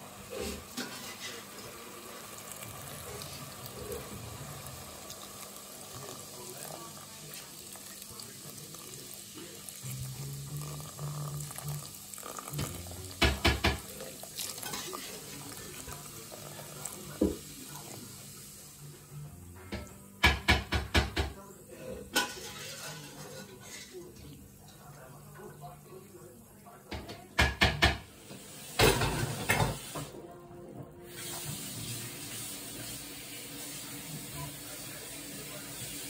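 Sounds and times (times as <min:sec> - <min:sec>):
food sizzling in a pot: 0:00.0 - 0:25.2, 0:27.0 - 0:30.2, 0:31.0 - 0:36.0
beer splashing and fizzing: 0:00.0 - 0:36.0.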